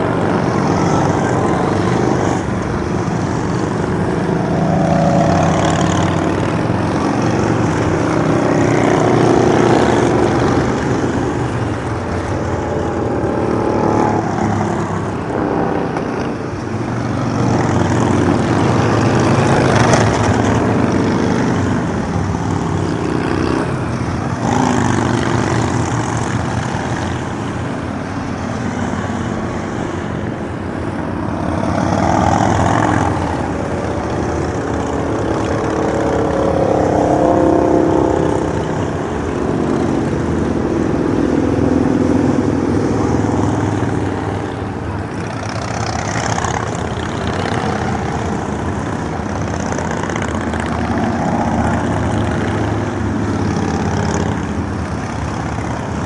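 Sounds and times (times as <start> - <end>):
motorcycles passing: 0.0 - 56.0.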